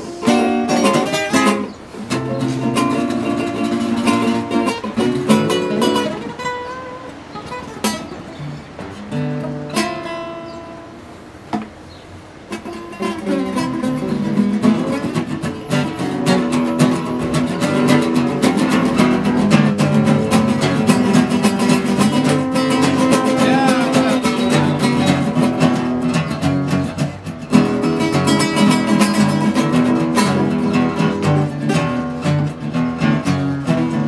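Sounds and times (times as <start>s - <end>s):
acoustic guitars playing: 0.0s - 34.0s.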